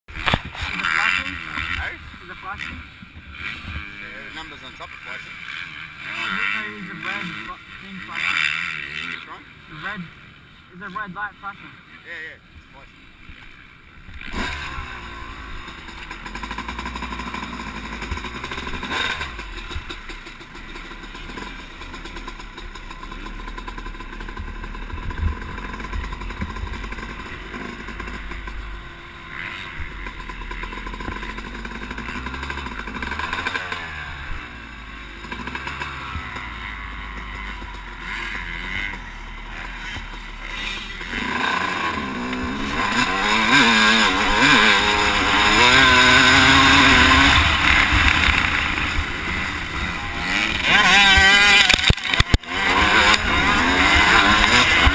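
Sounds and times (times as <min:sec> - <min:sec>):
motocross bike engine revving: 0:00.1 - 0:54.9.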